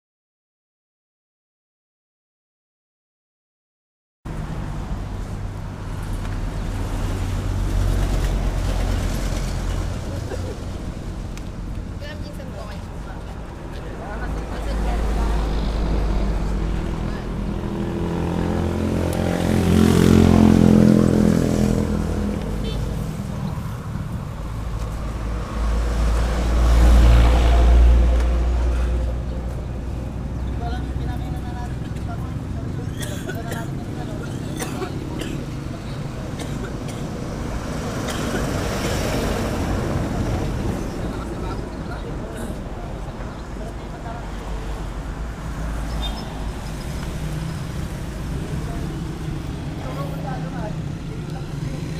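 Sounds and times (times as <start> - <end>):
wind and road noise: 4.3 - 51.9.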